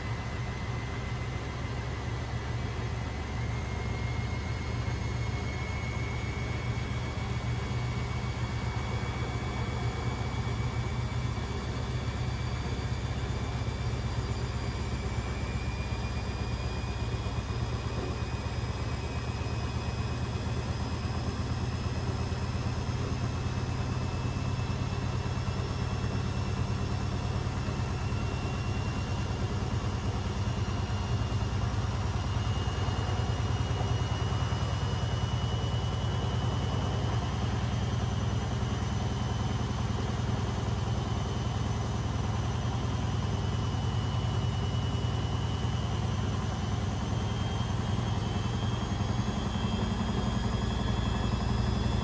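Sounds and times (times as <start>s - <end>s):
faint high whine: 0.0s - 52.0s.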